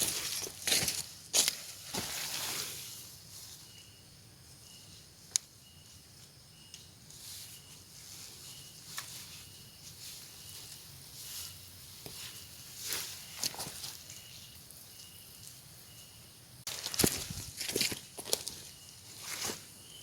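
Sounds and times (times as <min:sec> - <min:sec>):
outdoor rustling: 0:00.0 - 0:20.0.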